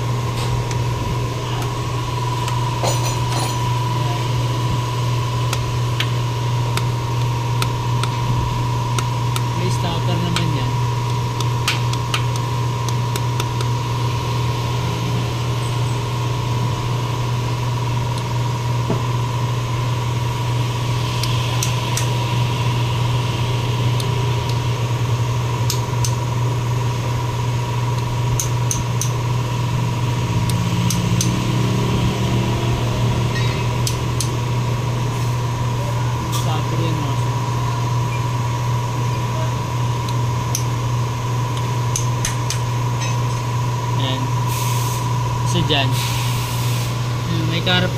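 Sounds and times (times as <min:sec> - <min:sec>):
low mechanical hum: 0:00.0 - 0:47.9.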